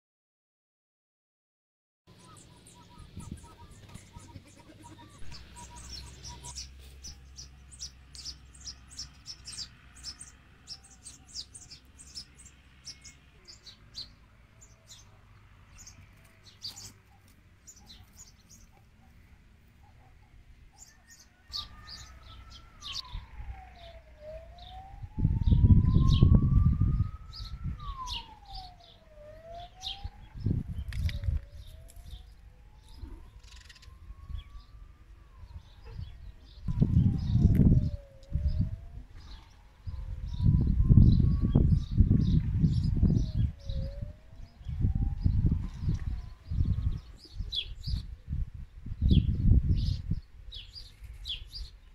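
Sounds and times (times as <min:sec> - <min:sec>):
small birds chirping: 0:02.1 - 0:48.2, 0:48.9 - 0:51.9
emergency siren wailing: 0:02.2 - 0:17.1, 0:20.0 - 0:50.6.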